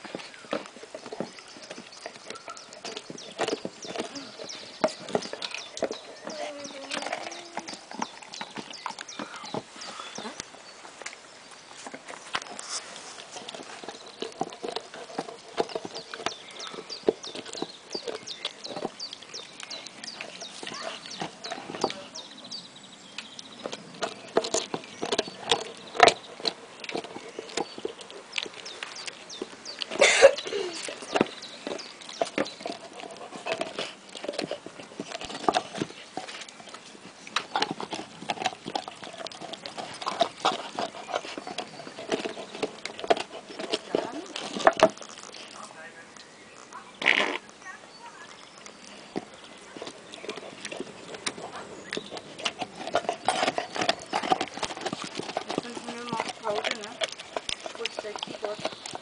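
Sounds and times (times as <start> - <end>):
dog gnawing a bone: 0.0 - 59.0.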